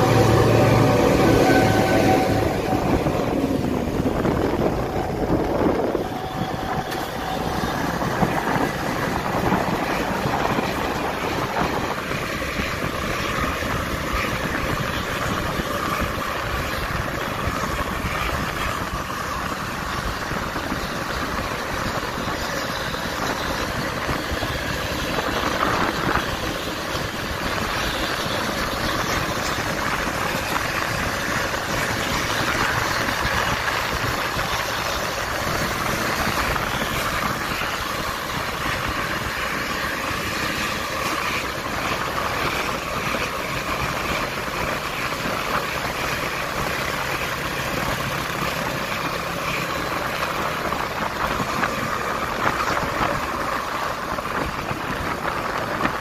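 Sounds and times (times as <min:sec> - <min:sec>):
vehicles travelling along a road: 0:00.0 - 0:56.0.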